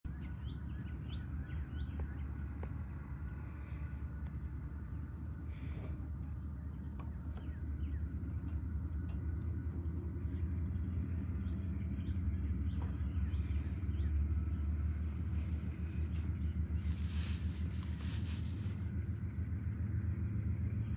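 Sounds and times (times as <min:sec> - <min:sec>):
distant locomotives rumbling: 0:00.1 - 0:20.9.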